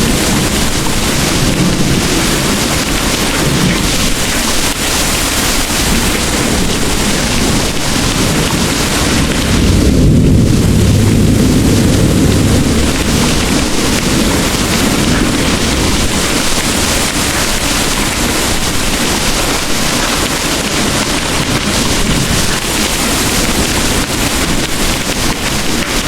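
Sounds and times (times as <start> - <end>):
distant thunder rumbling: 0.0 - 26.0
heavy rain hissing: 0.0 - 26.0.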